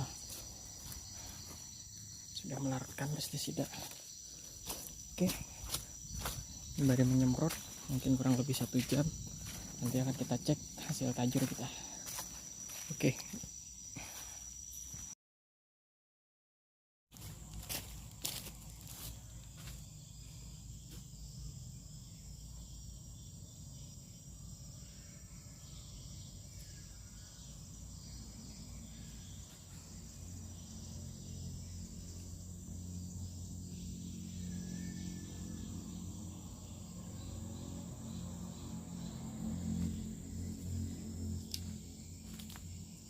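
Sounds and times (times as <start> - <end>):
insects droning: 0.0 - 15.2, 17.2 - 43.0.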